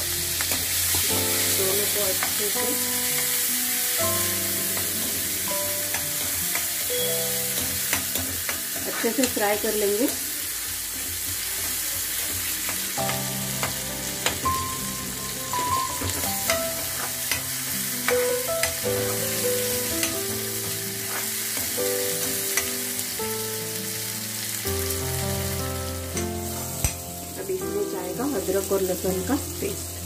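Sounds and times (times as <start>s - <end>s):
background music with held notes: 0.0s - 30.0s
onion and tomato sizzling in oil: 0.0s - 30.0s.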